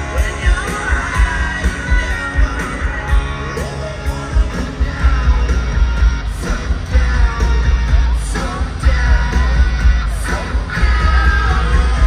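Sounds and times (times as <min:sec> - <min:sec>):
hard rock song over stadium pa: 0:00.0 - 0:12.0.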